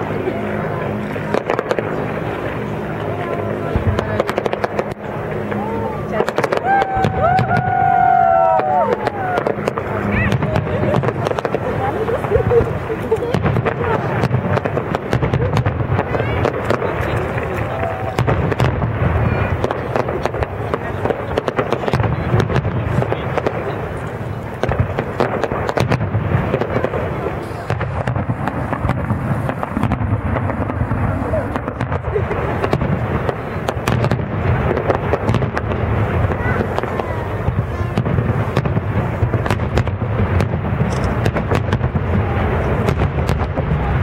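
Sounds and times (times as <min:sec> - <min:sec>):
continuous low rumble: 0:00.0 - 0:44.0
firework shells bursting: 0:06.2 - 0:44.0.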